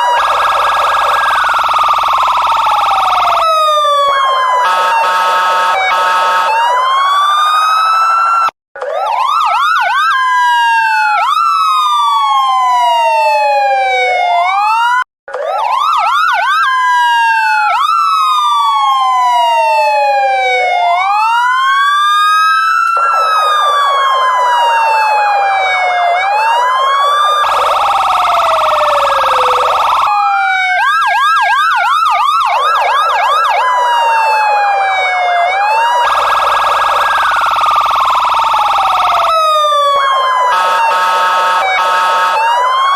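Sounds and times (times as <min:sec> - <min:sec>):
police sirens wailing and yelping: 0:00.0 - 0:42.9.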